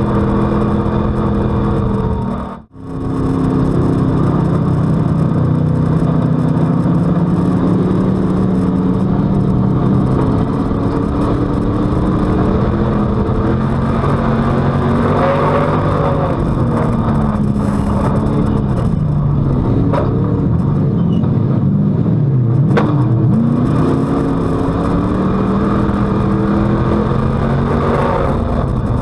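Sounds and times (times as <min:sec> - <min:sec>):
race car engine at speed: 0:00.0 - 0:29.0.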